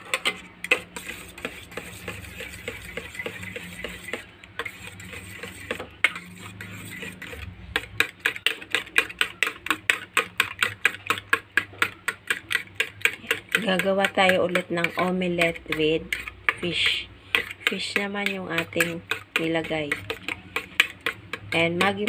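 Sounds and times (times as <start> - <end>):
spoon beating eggs in metal bowl: 0.0 - 22.0.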